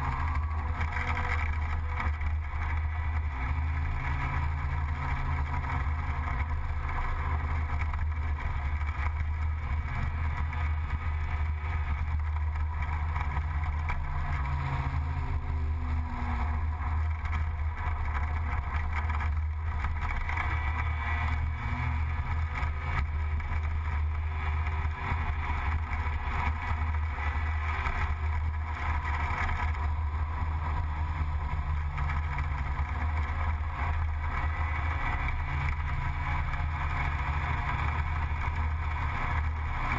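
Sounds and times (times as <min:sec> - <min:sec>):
road and wind noise: 0:00.0 - 0:39.9
scooter engine droning: 0:00.0 - 0:39.9.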